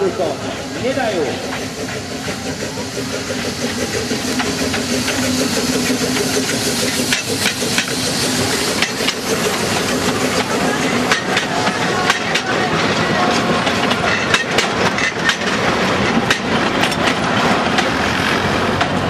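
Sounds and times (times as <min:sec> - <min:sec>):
train cars rolling past: 0:00.0 - 0:19.0
wheels clacking over rail joints: 0:00.0 - 0:19.0.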